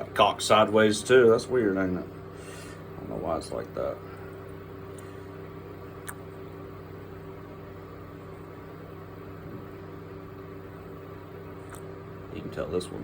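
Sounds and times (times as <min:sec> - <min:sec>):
electrical hum of a motor: 0:00.0 - 0:13.0.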